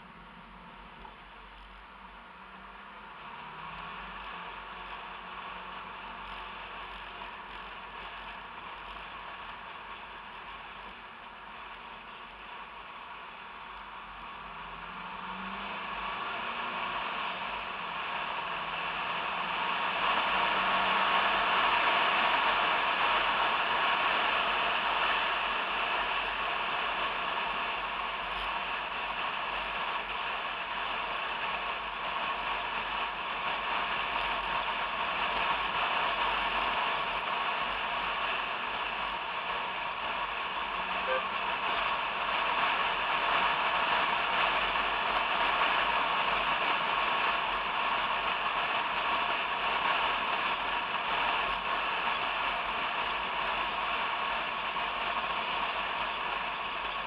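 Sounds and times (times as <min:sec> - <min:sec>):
car driving: 0:00.0 - 0:51.7.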